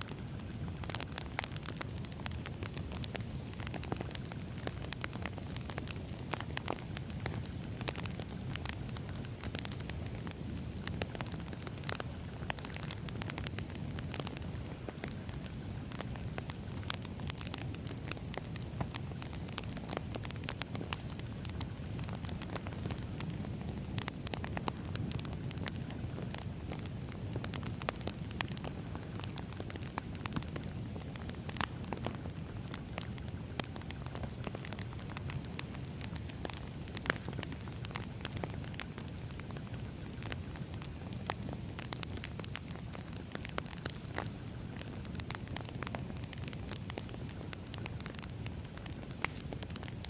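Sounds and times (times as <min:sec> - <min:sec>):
logs crackling and popping: 0:00.0 - 0:50.0
wood fire rumbling: 0:00.0 - 0:50.0.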